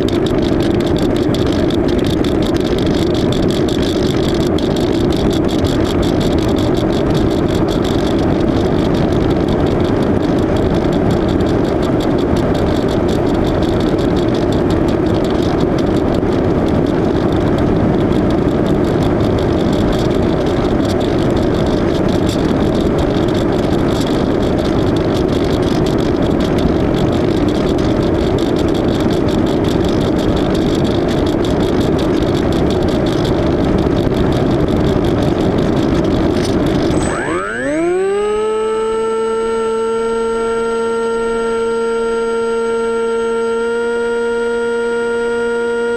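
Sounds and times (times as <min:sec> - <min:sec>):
wind rush: 0:00.0 - 0:42.2
model plane electric motor: 0:00.0 - 0:45.9.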